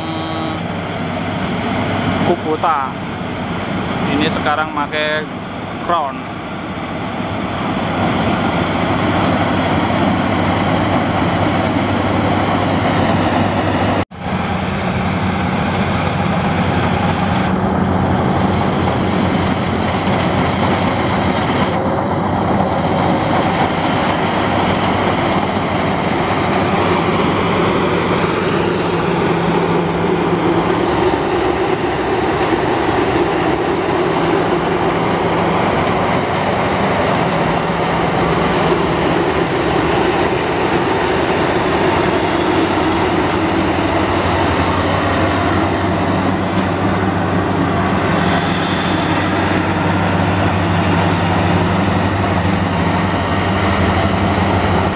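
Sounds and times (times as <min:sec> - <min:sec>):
combine harvester engine drone: 0:00.0 - 0:54.9
threshing machinery noise: 0:00.0 - 0:54.9.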